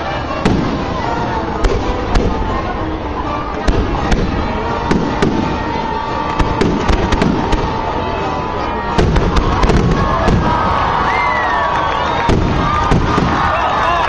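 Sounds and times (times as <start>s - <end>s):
fireworks bursting with bangs and crackles: 0.0s - 14.0s.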